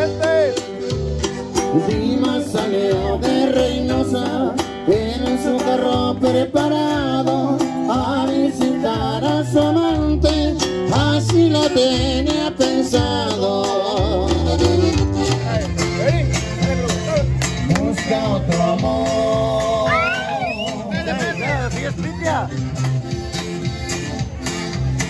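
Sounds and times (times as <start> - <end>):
accordion: 0.0 - 25.0
guitar: 0.0 - 25.0
pulsing bass line: 0.0 - 25.0.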